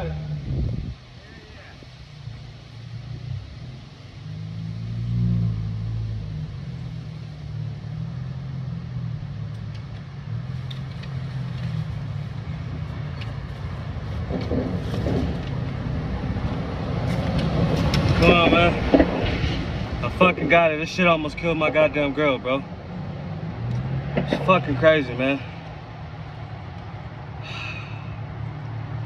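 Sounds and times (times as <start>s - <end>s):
engine running low drone: 0.0s - 29.0s.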